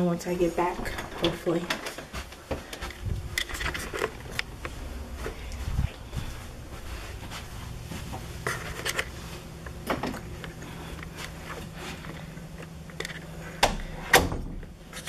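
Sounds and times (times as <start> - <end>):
steady low hum: 0.0 - 15.0
soft rustling: 0.4 - 13.6.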